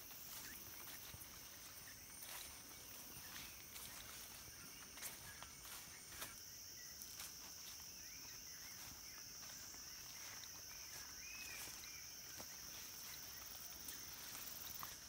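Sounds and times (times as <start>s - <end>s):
faint chirping calls: 0.0s - 15.0s
footstep clicks on path: 0.0s - 15.0s
insect chorus drone: 0.0s - 15.0s.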